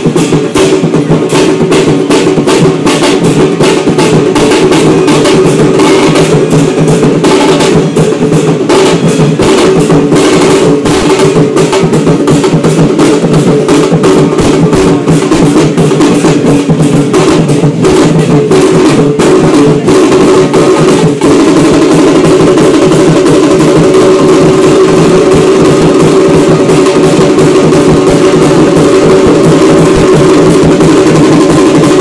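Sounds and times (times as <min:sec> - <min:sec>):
barrel drums beaten with sticks: 0:00.0 - 0:32.0.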